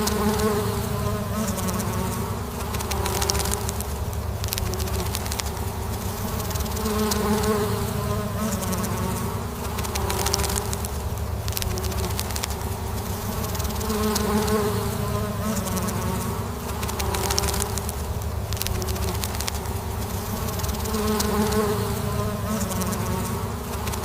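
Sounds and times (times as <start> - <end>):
faint ticks: 0.0 - 24.0
honeybees buzzing: 0.0 - 24.0.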